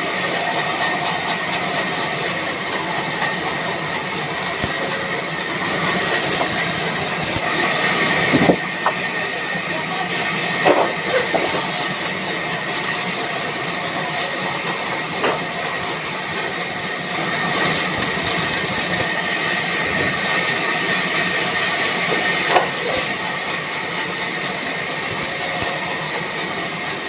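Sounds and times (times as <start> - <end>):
band sawmill hissing: 0.0 - 27.0.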